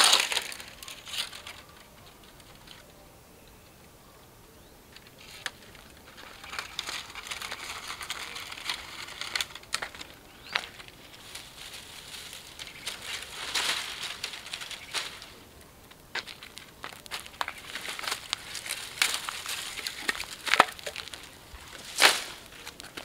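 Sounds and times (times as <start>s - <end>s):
dry leaves and twigs crackling: 0.0s - 23.0s.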